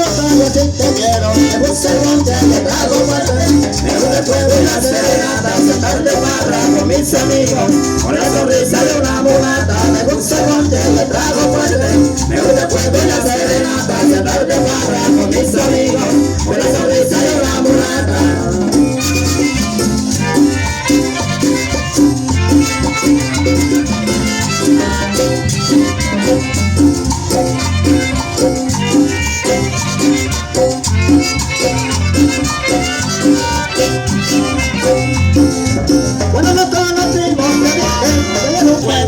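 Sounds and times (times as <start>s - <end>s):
band playing latin dance music: 0.0s - 39.0s.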